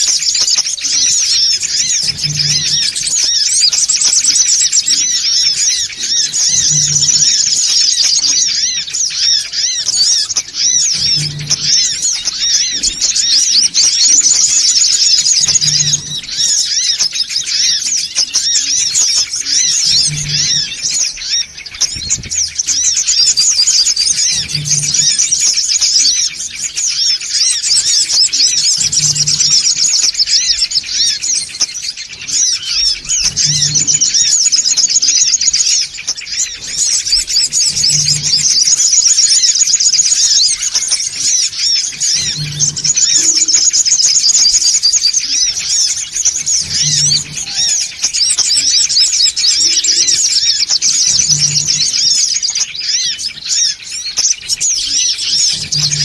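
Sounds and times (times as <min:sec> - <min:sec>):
bird rapid high twitters: 0:00.0 - 0:56.0.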